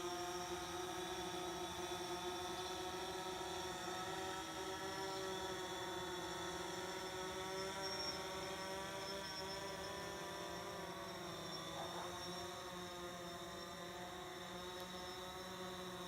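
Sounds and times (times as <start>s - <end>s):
drone buzzing hum: 2.6s - 16.0s.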